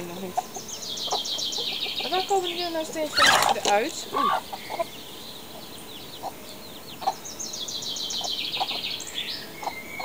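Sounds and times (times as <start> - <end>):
chickens clucking: 0.0 - 10.0
small birds chirping and trilling: 0.0 - 10.0.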